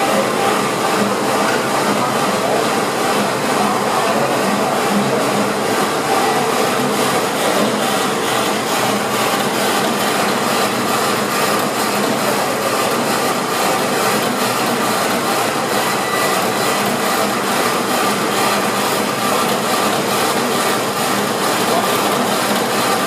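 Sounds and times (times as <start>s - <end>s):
boring machine running: 0.0s - 23.0s.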